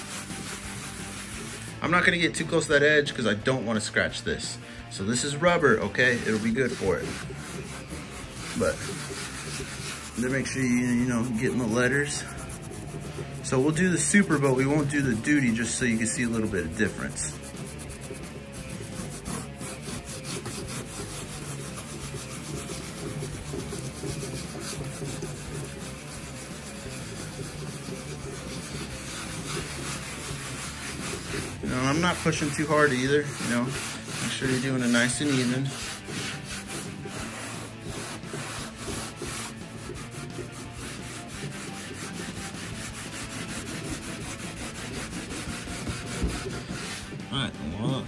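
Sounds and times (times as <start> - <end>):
scrub pad rubbing wet trim: 0.0 - 1.9, 5.0 - 47.2.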